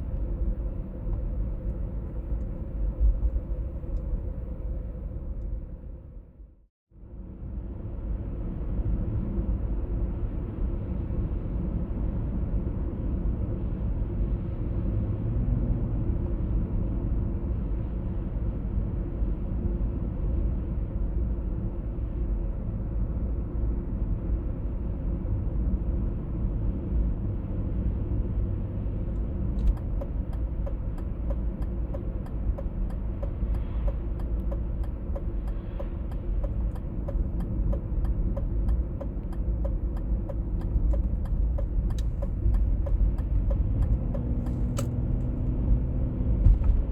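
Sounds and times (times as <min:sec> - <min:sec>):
road and drivetrain rumble: 0:00.0 - 0:46.9.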